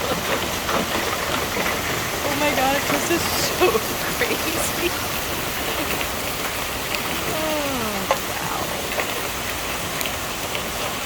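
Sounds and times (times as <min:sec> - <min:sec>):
hail shower hiss: 0:00.0 - 0:11.0
hailstones clicking on hard surfaces: 0:00.0 - 0:11.0.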